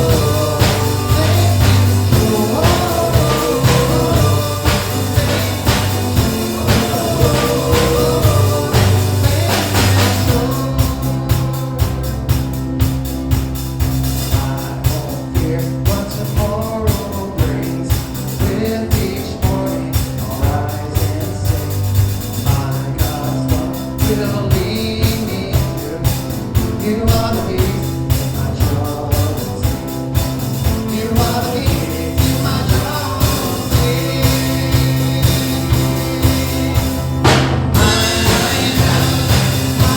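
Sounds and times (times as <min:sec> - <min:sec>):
steady drum beat: 0:00.0 - 0:39.9
voices singing: 0:00.0 - 0:39.9
worship band playing: 0:00.0 - 0:39.9.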